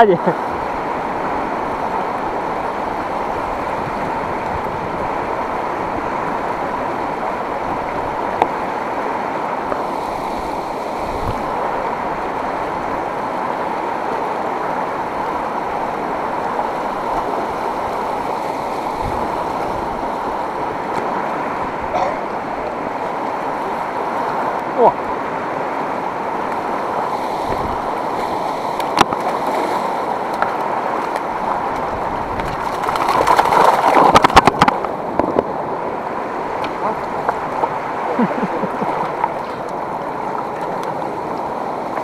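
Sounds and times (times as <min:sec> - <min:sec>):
river water rushing: 0:00.0 - 0:42.0.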